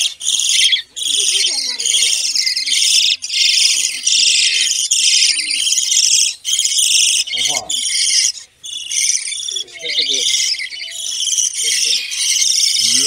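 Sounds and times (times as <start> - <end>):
caged birds chattering and chirping: 0.0 - 13.0.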